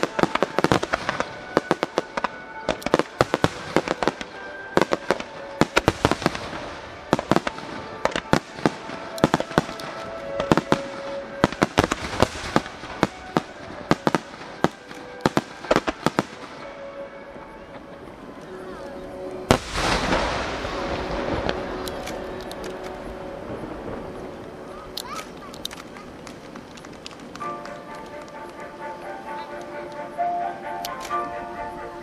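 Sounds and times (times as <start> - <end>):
fireworks bursting: 0.0 - 31.9
music with held notes: 0.0 - 32.0.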